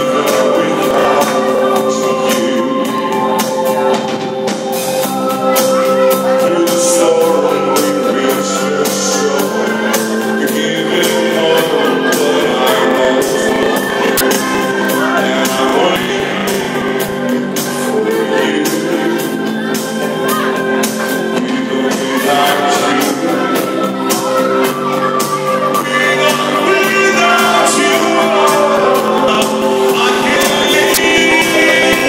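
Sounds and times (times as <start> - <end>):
drum kit beat: 0.0 - 32.0
person singing: 0.0 - 32.0
rock band playing live: 0.0 - 32.0.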